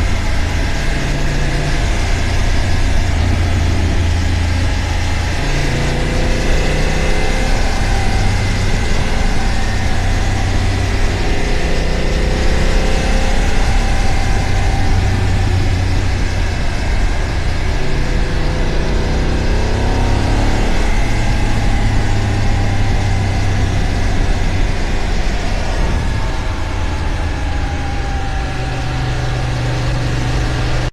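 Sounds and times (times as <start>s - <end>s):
motorcycle engine accelerating: 0.0s - 30.9s
wind and road noise: 0.0s - 30.9s.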